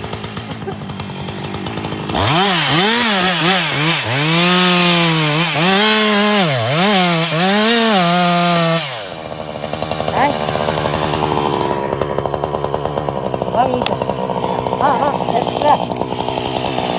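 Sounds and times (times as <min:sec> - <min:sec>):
chainsaw engine revving: 0:00.0 - 0:16.9.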